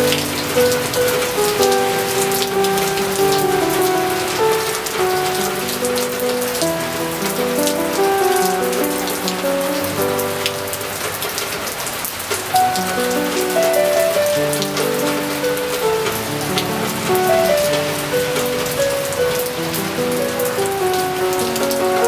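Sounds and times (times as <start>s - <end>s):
piano music: 0.0s - 22.0s
rain falling: 0.0s - 22.0s.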